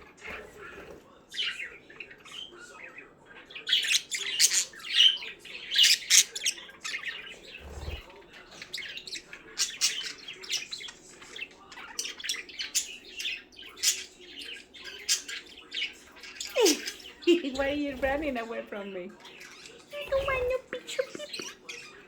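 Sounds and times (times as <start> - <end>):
budgerigars chirping: 0.0 - 22.0.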